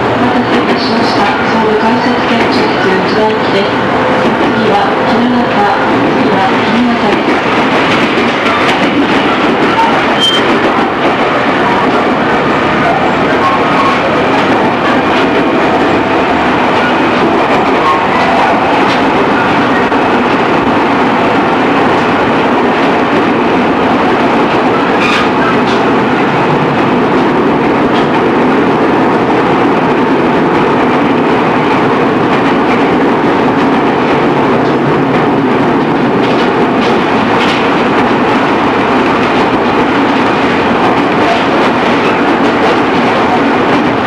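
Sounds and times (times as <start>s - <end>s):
rail joint clicks: 0.0s - 44.0s
wheels rumbling on rail: 0.0s - 44.0s.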